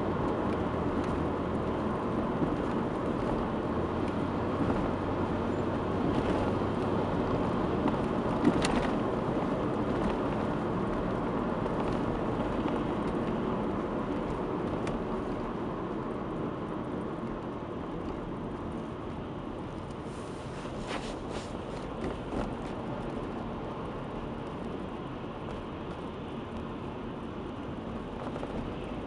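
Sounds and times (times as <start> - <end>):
road noise: 0.0 - 29.0.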